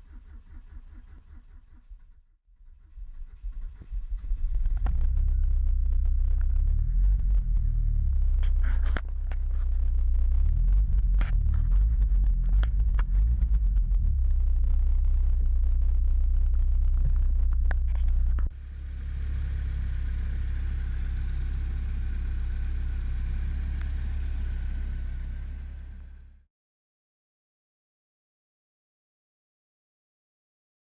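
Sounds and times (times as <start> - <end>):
car engine idling: 0.0 - 26.4.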